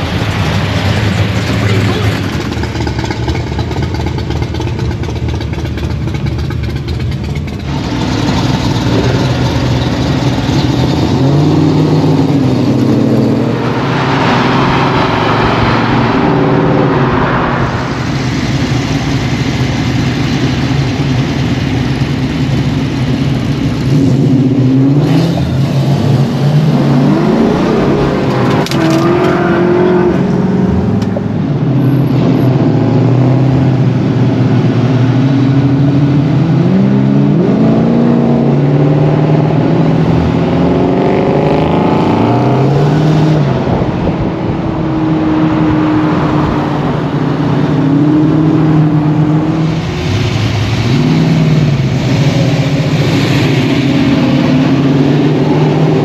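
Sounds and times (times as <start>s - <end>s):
car engines revving in traffic: 0.0s - 56.0s.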